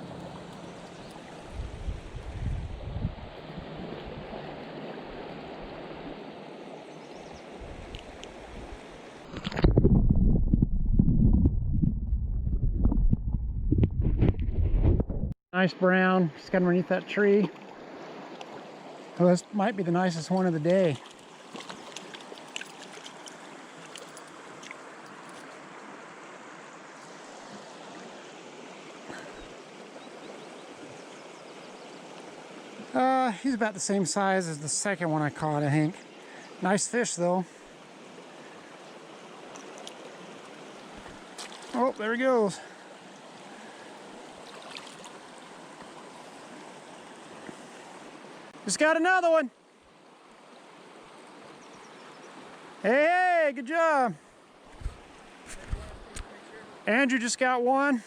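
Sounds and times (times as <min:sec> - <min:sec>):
river water rushing: 0:00.0 - 0:02.3, 0:03.2 - 0:09.4, 0:16.3 - 0:55.6, 0:56.3 - 0:57.0.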